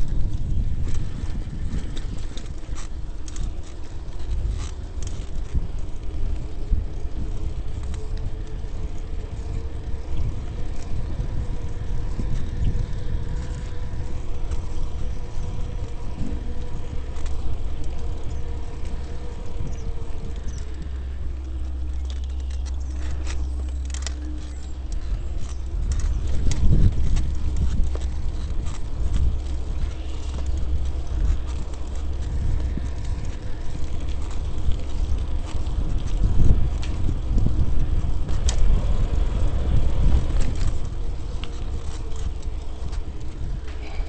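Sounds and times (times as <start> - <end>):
faint steady hum: 0.0 - 44.0
small rattles and clicks: 0.0 - 44.0
tyres rolling on pavement: 0.0 - 44.0
wind rumbling on microphone: 0.0 - 44.0.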